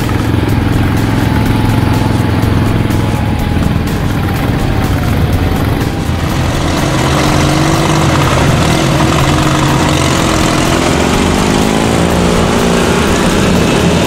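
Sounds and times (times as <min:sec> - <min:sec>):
lawn tractor engines droning: 0:00.0 - 0:14.0.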